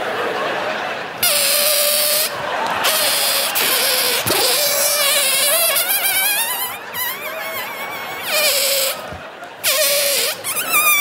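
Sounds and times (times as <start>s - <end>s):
balloon squealing air out: 1.2s - 11.0s.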